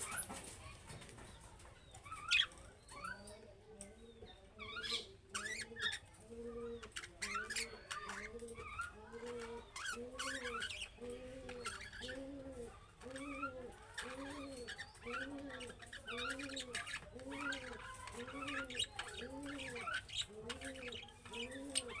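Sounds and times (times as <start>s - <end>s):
budgerigars chirping and warbling: 1.9s - 22.0s.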